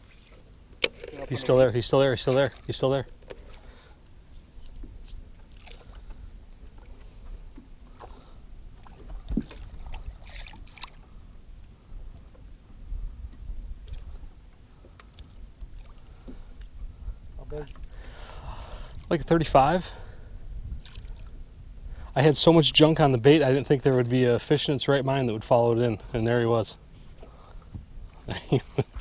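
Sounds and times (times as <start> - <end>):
water lapping against boat: 0.0 - 22.1, 25.8 - 29.0.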